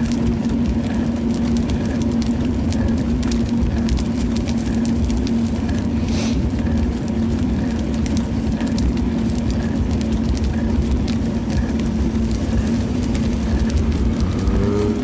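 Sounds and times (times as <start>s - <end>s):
bicycle road rumble: 0.0s - 15.0s
constant low hum: 0.0s - 15.0s
wind on microphone: 0.0s - 15.0s.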